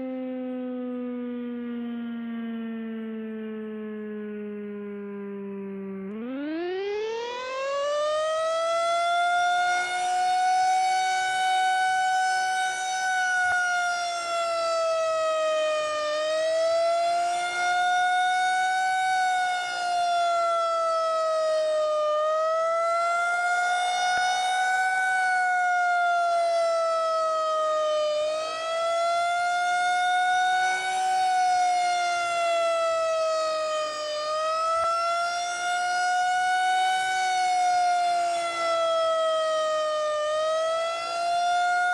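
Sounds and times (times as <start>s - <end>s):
warning siren wailing: 0.0s - 41.9s.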